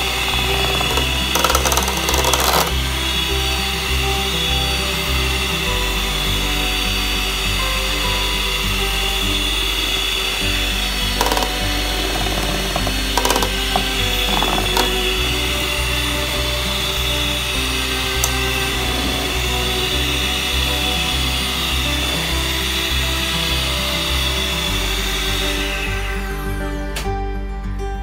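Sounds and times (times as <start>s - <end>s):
electric hand mixer running: 0.0s - 27.0s
background music: 0.0s - 28.0s.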